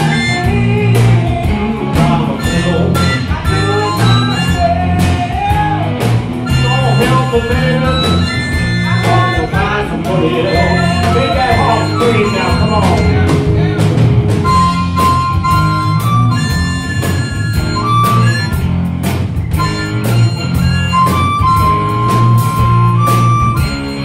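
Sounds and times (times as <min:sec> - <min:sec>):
blues band playing: 0:00.0 - 0:24.0
harmonica long held notes: 0:00.0 - 0:24.0.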